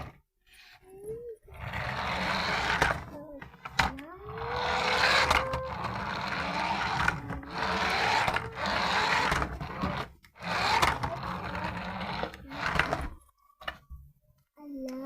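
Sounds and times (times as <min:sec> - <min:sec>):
toy car electric motor whirring: 0:00.0 - 0:13.2.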